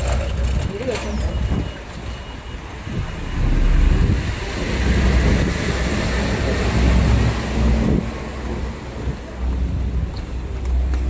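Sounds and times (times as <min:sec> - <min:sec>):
low rumble of city noise: 0:00.0 - 0:11.0.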